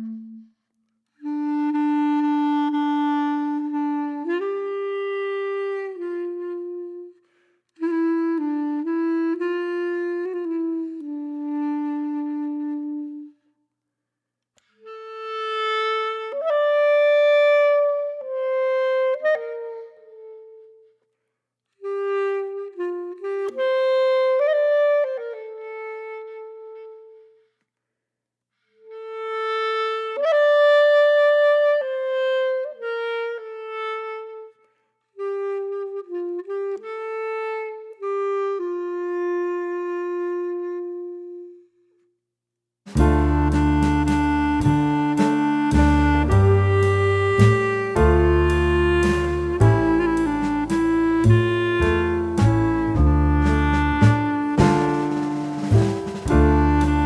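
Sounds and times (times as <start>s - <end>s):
slow solo woodwind melody: 0.0s - 0.6s, 1.2s - 13.4s, 14.8s - 21.0s, 21.8s - 27.5s, 28.9s - 41.7s, 42.9s - 57.0s.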